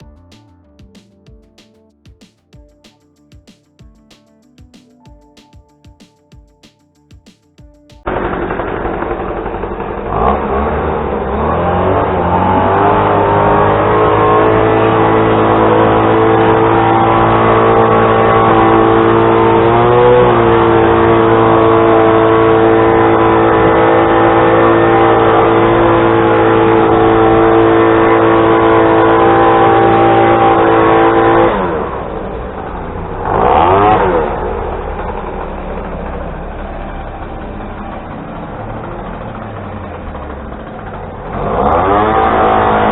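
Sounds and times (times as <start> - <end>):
engine revving: 8.0 - 42.9.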